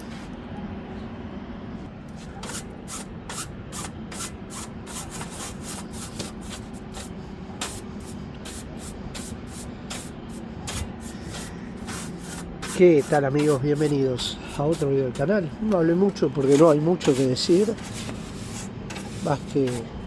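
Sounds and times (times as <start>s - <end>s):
steady low hum: 0.0s - 20.0s
quick rubbing strokes: 2.2s - 15.3s, 16.4s - 19.9s.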